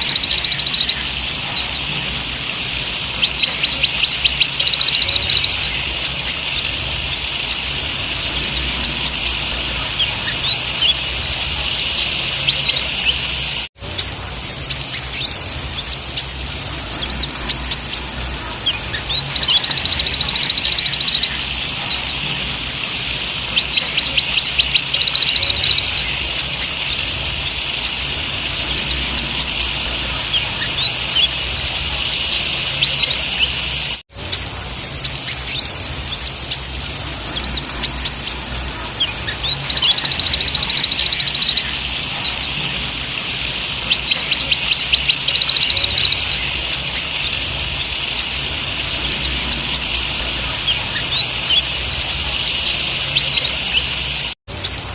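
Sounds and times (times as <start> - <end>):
buzzing bird trills: 0.0 - 54.9
sunbirds chirping: 0.0 - 54.9.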